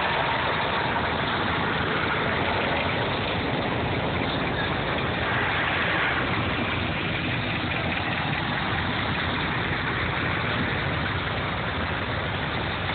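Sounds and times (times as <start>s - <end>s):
tractor engines running: 0.0s - 12.9s.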